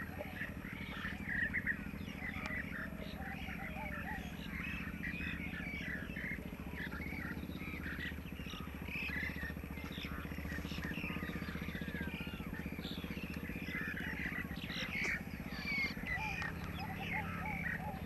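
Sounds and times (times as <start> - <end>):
birds chirping: 0.0 - 18.0
diesel engine idling: 0.0 - 18.0.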